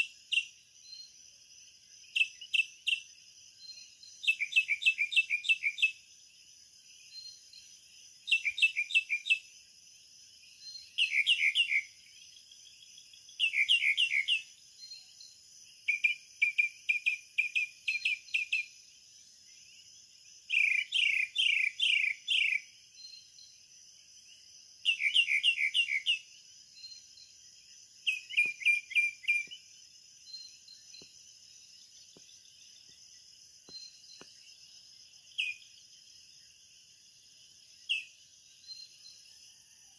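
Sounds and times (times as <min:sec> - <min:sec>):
bird chirping: 0:02.0 - 0:06.1, 0:07.0 - 0:09.6, 0:10.4 - 0:19.8, 0:20.5 - 0:23.7, 0:24.4 - 0:36.5, 0:37.6 - 0:39.9.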